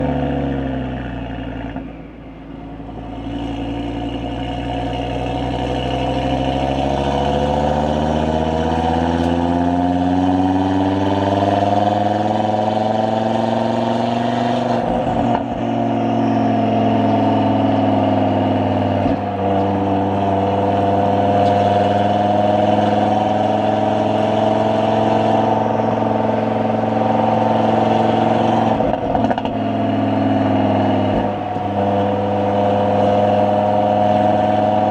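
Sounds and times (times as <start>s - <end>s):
car engine at cruising speed: 0.0s - 34.9s.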